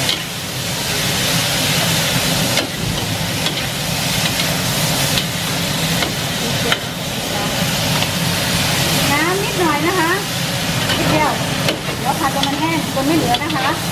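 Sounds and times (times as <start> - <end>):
food sizzling in a wok: 0.0 - 13.9.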